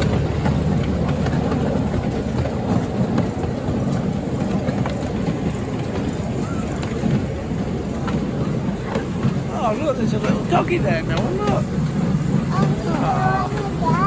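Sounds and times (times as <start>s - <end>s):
miniature train rumbling on track: 0.0s - 14.0s.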